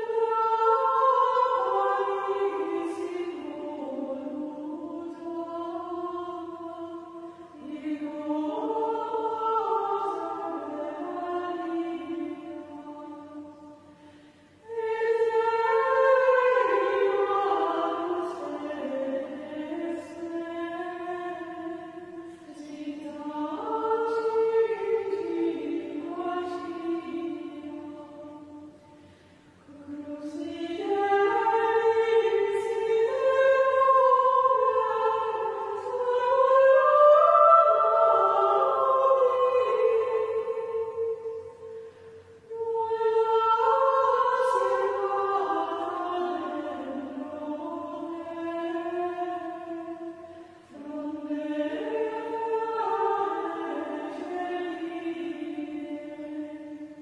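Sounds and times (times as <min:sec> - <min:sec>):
women singing chant in unison: 0:00.0 - 0:29.0, 0:29.6 - 0:57.0.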